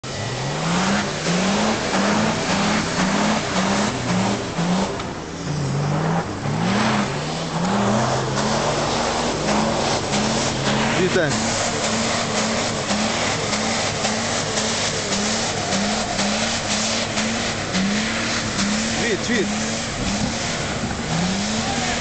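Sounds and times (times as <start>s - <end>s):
small petrol engine revving: 0.0s - 22.0s.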